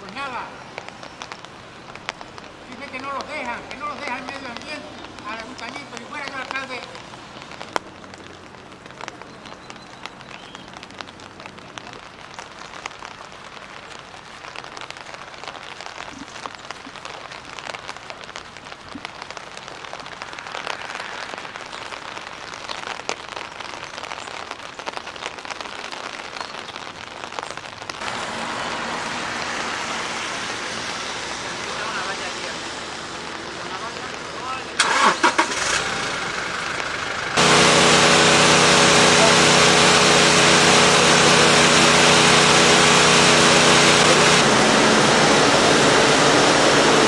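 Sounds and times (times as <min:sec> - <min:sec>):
rain pattering on wet pavement: 0:00.0 - 0:47.0.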